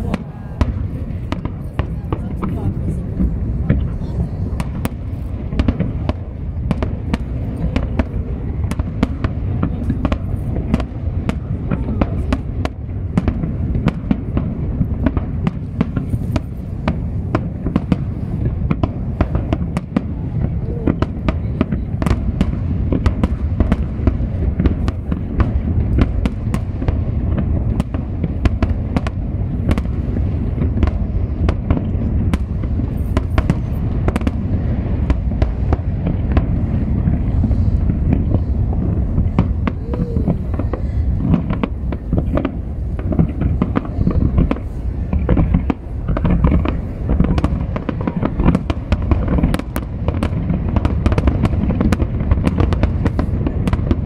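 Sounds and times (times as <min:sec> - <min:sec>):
fireworks bursting: 0:00.0 - 0:54.0
fireworks crackling: 0:00.0 - 0:54.0.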